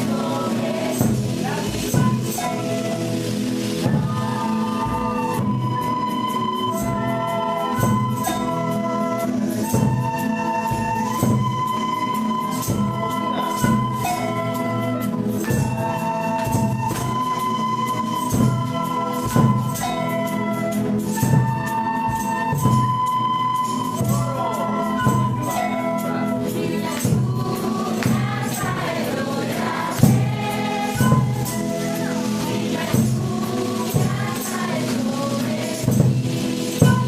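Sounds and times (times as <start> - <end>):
steady percussion: 0.0 - 37.0
sustained instrumental notes: 0.0 - 37.0.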